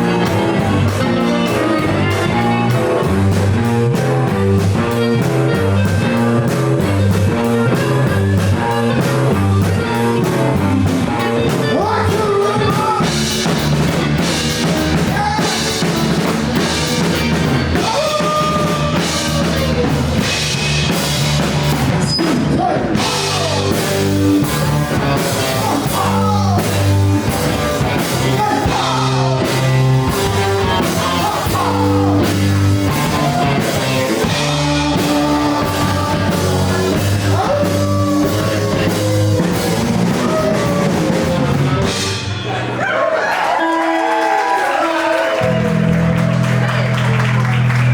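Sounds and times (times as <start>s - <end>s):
electric guitar lead bending notes: 0.0s - 42.6s
rock band playing live: 0.0s - 42.8s, 45.0s - 47.9s.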